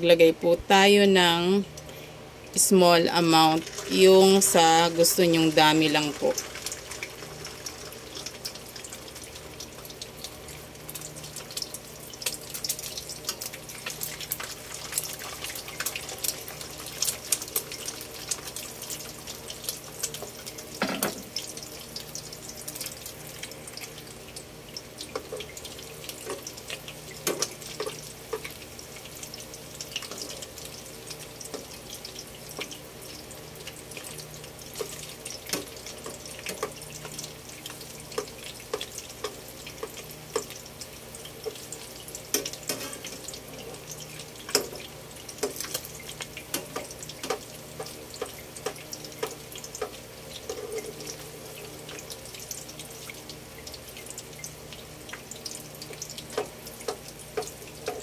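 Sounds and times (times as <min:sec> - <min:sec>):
batter sizzling in hot oil: 0:00.8 - 0:58.0.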